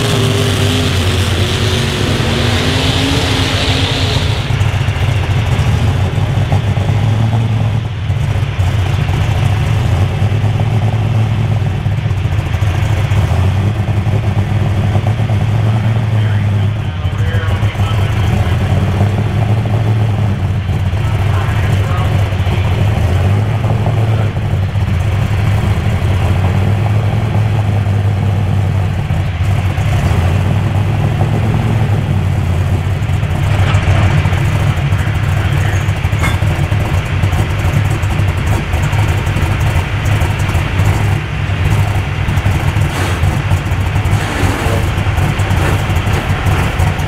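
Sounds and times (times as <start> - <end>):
tractor engine running loud: 0.0 - 47.0.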